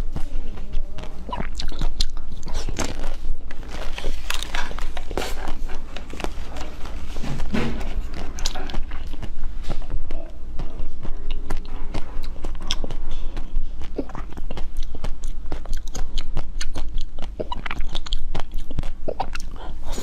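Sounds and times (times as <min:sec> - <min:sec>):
crunchy biting and chewing: 0:00.0 - 0:20.0.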